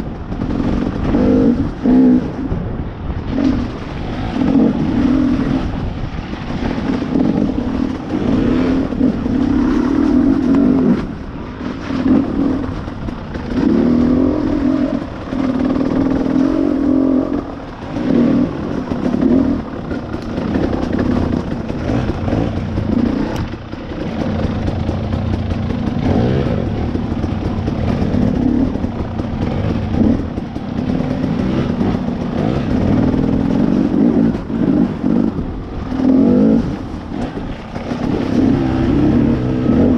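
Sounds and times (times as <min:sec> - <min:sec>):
dirt bike engine revving: 0:00.0 - 0:02.6, 0:03.2 - 0:39.9.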